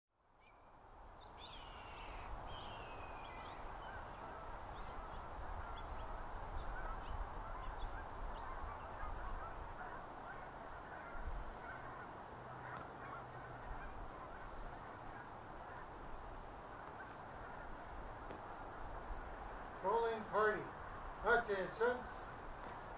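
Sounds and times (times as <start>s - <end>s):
geese honking: 1.4s - 22.9s.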